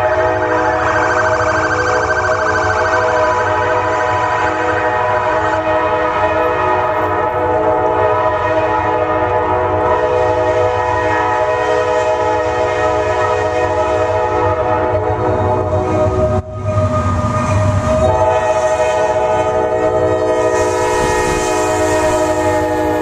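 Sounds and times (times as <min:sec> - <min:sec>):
locomotive horn chord: 0:00.0 - 0:01.6, 0:02.4 - 0:15.8, 0:18.0 - 0:23.0
low rumble of train: 0:00.0 - 0:23.0.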